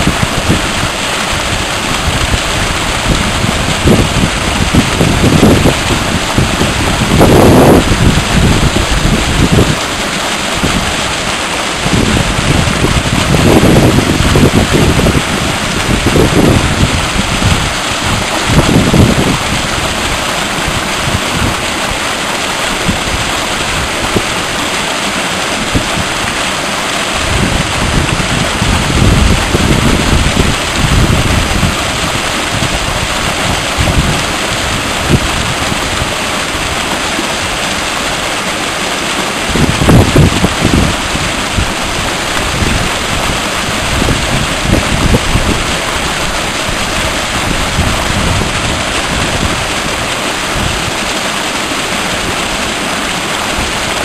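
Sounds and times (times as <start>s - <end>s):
wind buffeting microphone: 0.0s - 38.3s, 39.4s - 54.0s
fast-flowing river rushing: 0.0s - 54.0s.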